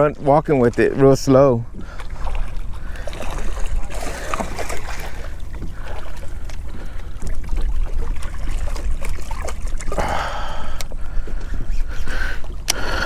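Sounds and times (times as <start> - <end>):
water trickling and lapping: 0.0 - 13.0.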